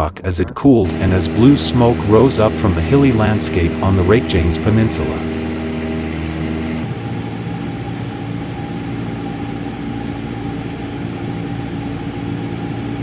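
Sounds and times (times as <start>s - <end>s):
aircraft engine drone: 0.0s - 13.0s
noisy rush: 0.8s - 13.0s.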